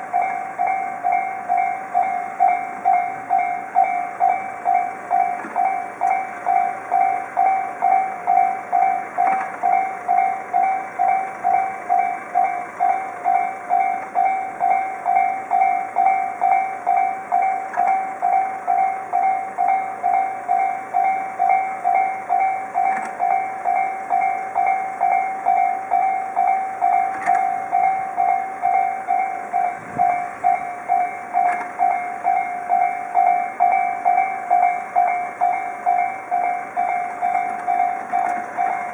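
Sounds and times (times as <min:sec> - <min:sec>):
railroad crossing warning bell: 0:00.0 - 0:38.9.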